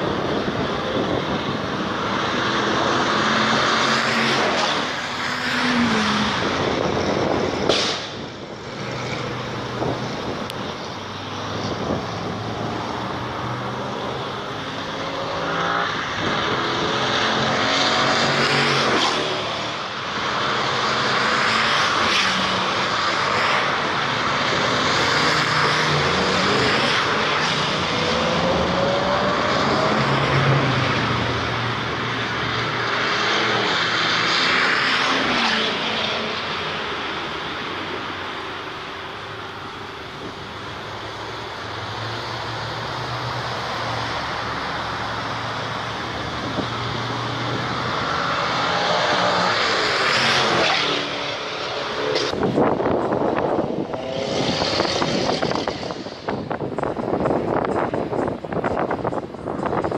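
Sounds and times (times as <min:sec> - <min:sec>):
sports cars accelerating past: 0:00.0 - 0:38.4, 0:41.0 - 0:57.9.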